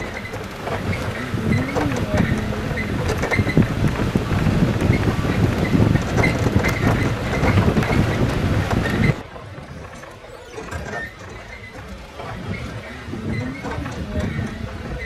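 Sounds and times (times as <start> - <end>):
jeep engine rumble: 0.0 - 15.0
vehicle body rattling: 0.0 - 15.0.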